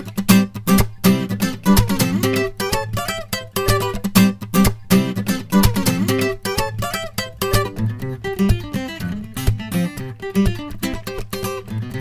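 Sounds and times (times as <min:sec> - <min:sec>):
acoustic guitar music: 0:00.0 - 0:12.0
steady beat: 0:00.3 - 0:11.2.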